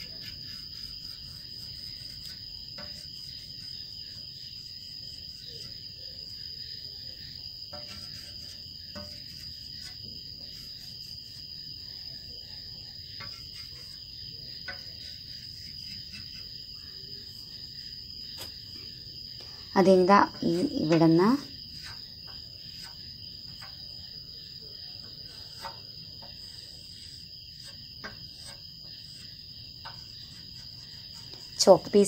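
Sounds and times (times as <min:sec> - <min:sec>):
chalk scratching on a board: 0:00.0 - 0:06.4, 0:07.7 - 0:12.0, 0:12.6 - 0:17.4, 0:20.4 - 0:24.0, 0:24.9 - 0:31.6
crickets trilling: 0:00.0 - 0:32.0.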